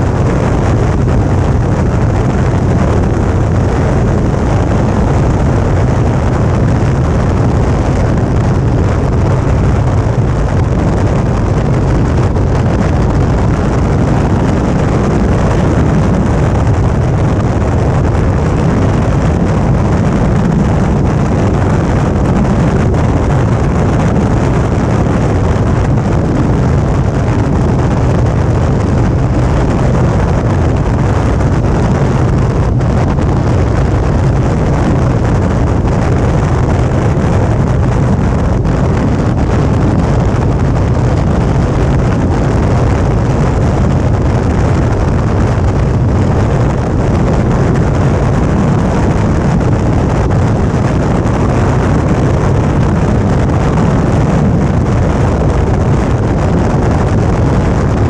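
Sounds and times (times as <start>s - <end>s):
motorcycle engine running: 0.0s - 51.2s
road noise: 0.0s - 58.0s
wind rushing: 0.0s - 58.0s.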